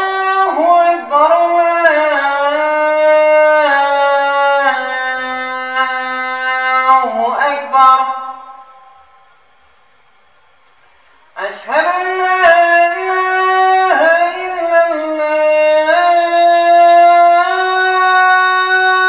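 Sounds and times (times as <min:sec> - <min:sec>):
man chanting call to prayer: 0:00.0 - 0:09.2, 0:11.4 - 0:19.0.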